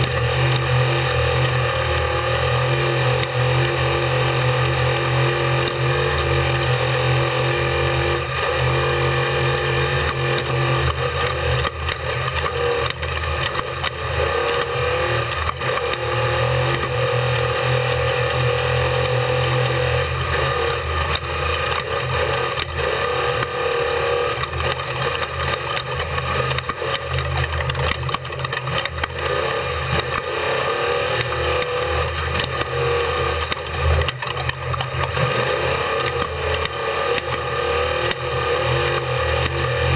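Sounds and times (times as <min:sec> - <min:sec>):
truck engine running hard: 0:00.0 - 0:39.9.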